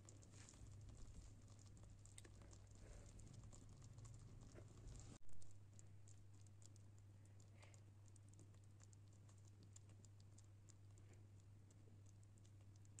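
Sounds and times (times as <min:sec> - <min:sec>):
faint irregular ticks: 0:00.0 - 0:13.0
steady low hum: 0:00.0 - 0:13.0.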